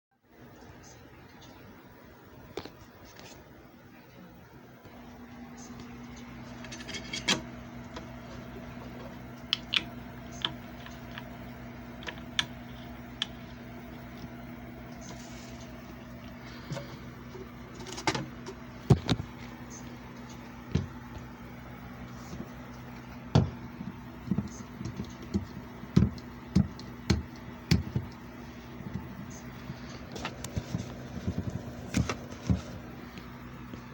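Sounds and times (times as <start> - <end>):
electric motor hum: 4.8 - 33.9.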